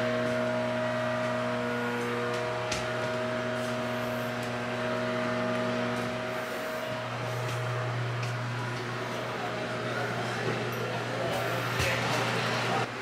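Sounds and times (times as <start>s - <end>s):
steady machinery hum: 0.0s - 13.0s.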